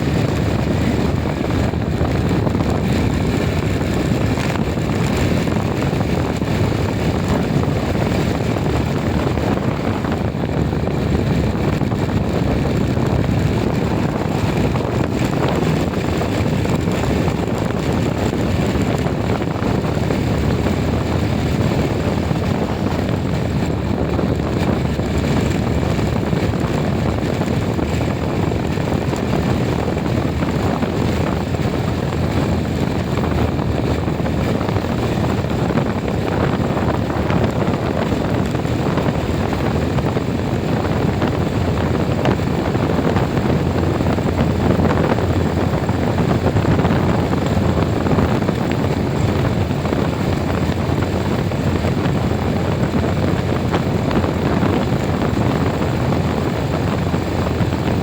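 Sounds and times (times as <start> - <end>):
moving vehicle running noise: 0.0 - 58.0
wind on microphone: 0.0 - 58.0.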